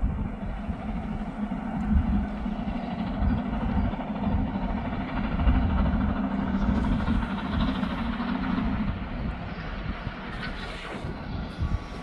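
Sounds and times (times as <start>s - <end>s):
steam locomotive rumbling: 0.0s - 12.0s.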